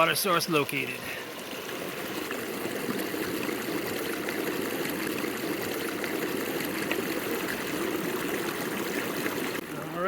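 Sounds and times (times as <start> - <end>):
stream water over rocks: 0.0 - 10.0.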